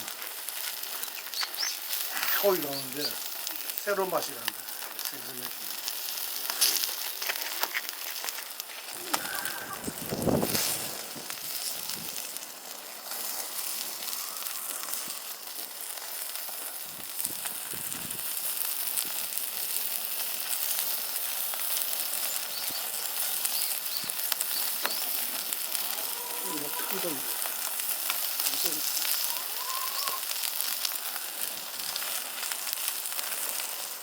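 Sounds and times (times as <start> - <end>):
food sizzling on a grill: 0.0 - 34.0.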